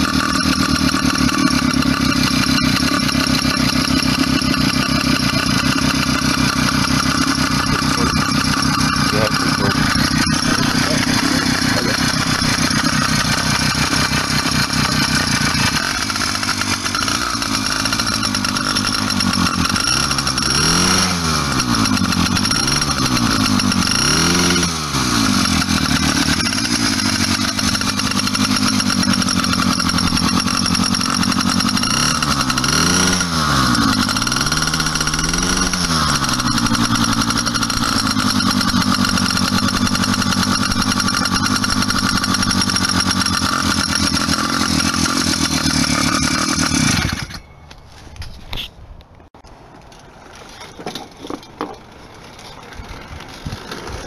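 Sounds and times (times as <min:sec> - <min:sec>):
two-stroke engine idling and revving: 0:00.0 - 0:47.8, 0:53.1 - 0:54.0.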